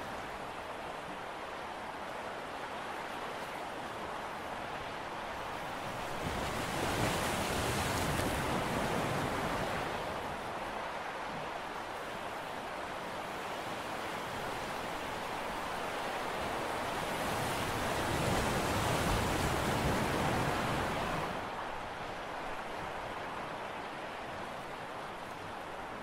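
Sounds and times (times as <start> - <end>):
sea rushing: 0.0 - 26.0.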